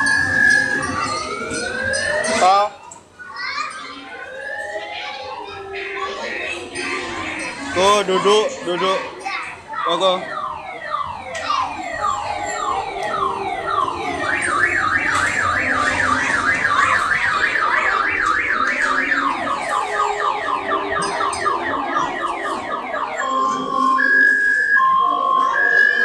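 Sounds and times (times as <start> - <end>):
fast warbling siren: 0.0 - 26.0.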